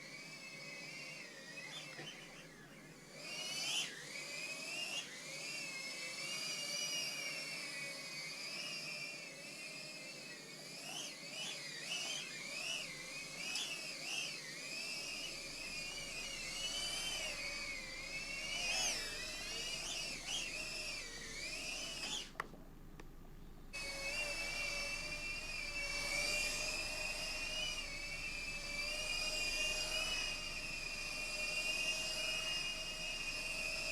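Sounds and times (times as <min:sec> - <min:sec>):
drone motors whining: 0:00.0 - 0:22.5, 0:23.6 - 0:33.9.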